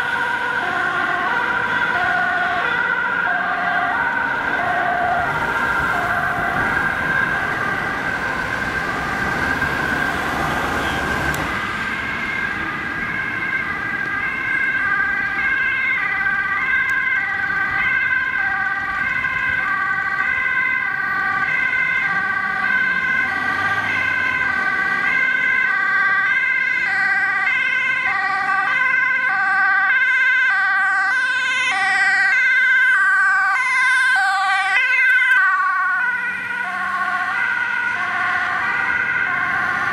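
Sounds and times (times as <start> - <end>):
traffic noise: 0.0 - 39.9
two-tone ambulance siren: 0.0 - 39.9.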